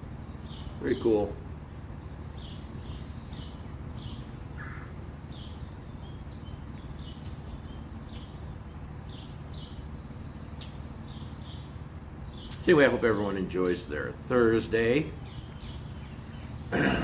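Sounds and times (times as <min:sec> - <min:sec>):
low background rumble: 0:00.0 - 0:17.0
small birds chirping: 0:00.0 - 0:17.0.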